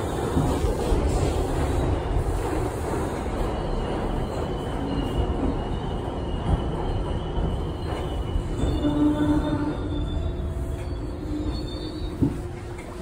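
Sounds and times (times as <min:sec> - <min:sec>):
subway wheels rumbling on rail: 0:00.0 - 0:13.0.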